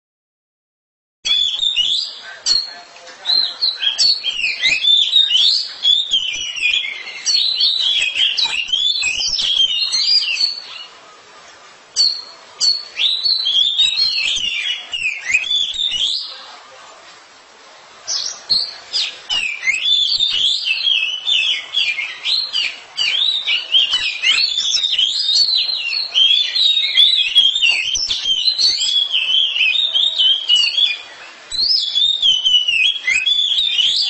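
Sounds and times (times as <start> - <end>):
bird singing whistled phrases: 1.3 - 11.0, 12.0 - 16.6, 18.1 - 34.0.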